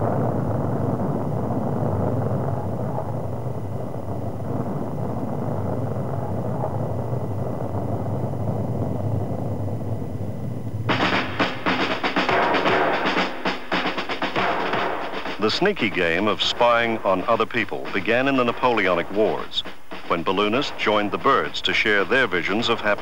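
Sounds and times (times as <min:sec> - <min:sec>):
rocket engines rumbling: 0:00.0 - 0:23.0.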